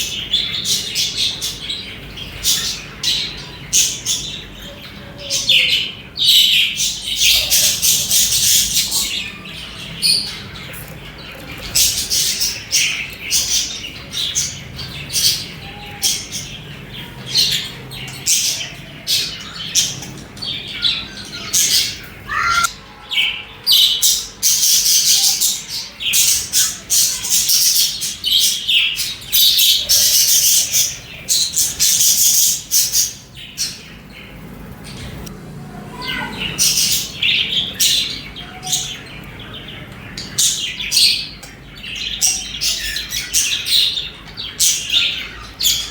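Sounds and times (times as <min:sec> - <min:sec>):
budgerigars chirping: 0:00.0 - 0:35.3, 0:36.2 - 0:45.9.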